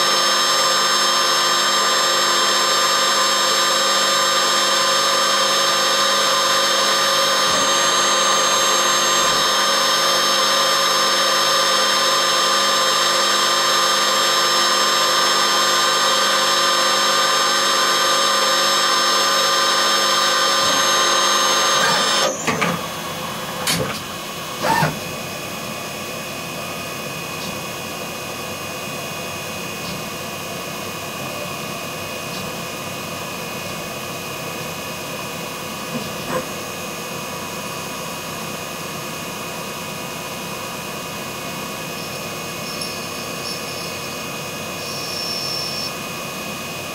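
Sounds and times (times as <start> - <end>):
lathe drilling metal whine: 0.0 - 46.9.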